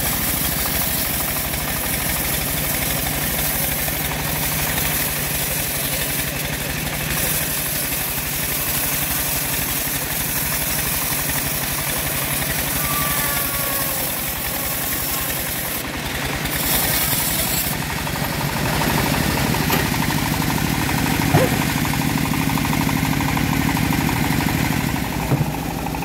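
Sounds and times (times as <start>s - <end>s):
band saw mill cutting log: 0.0s - 26.0s
engine-like pulse: 0.0s - 26.0s.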